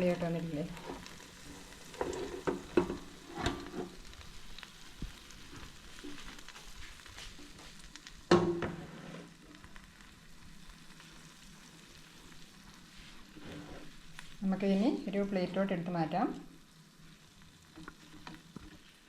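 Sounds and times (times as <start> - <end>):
chicken sizzling and crackling: 0.0 - 19.0.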